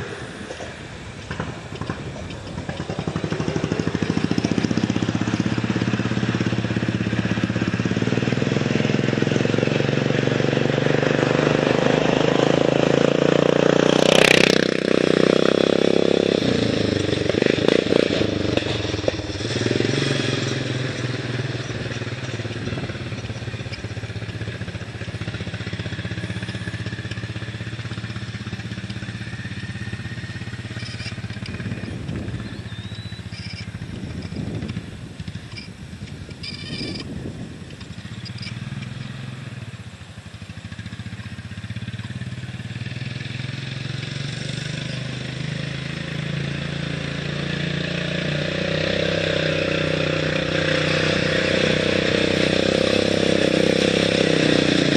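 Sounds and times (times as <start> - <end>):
racing lawn mower engine passing: 0.0 - 54.9.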